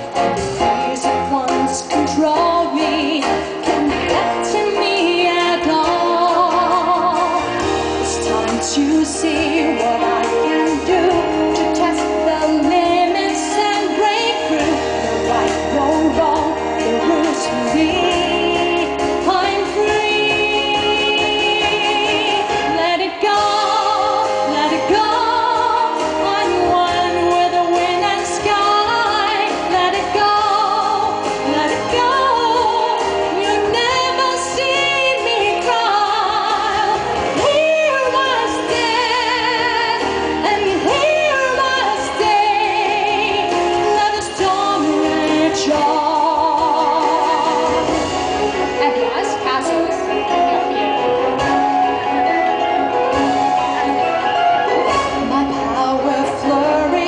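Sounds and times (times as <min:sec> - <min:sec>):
instrumental accompaniment: 0:00.0 - 0:57.0
woman singing through speakers: 0:00.0 - 0:57.0.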